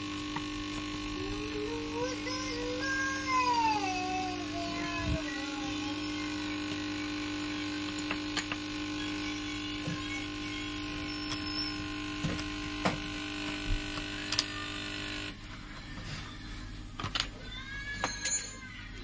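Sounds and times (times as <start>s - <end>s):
steady hum of held tones: 0.0s - 17.3s.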